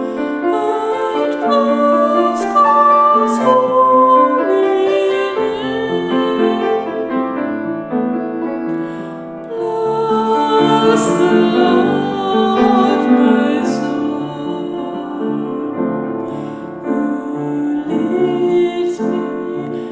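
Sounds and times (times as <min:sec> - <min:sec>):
chant singing: 0:00.0 - 0:07.6, 0:09.5 - 0:19.9
piano accompaniment: 0:00.0 - 0:19.9.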